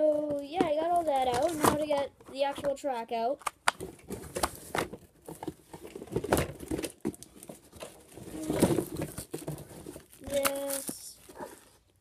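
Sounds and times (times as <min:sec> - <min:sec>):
cardboard rustling and tearing: 0:00.8 - 0:02.5, 0:03.8 - 0:11.9.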